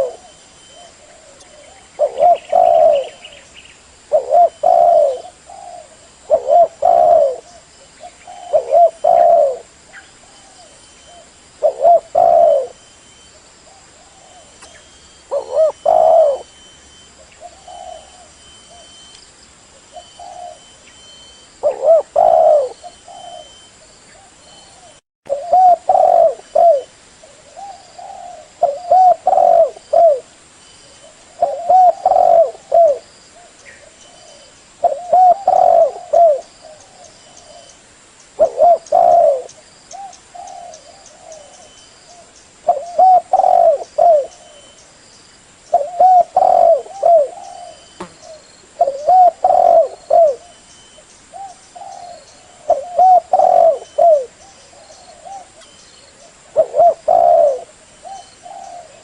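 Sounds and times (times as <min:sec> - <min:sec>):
dove cooing: 0:00.0 - 0:03.5, 0:04.1 - 0:12.9, 0:13.7 - 0:19.1, 0:19.8 - 0:30.3, 0:30.9 - 0:37.8, 0:38.4 - 0:44.8, 0:45.7 - 0:59.0.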